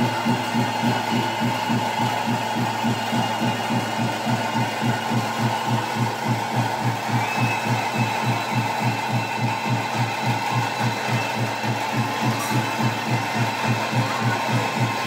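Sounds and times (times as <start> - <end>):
drum beaten fast: 0.0 - 15.0.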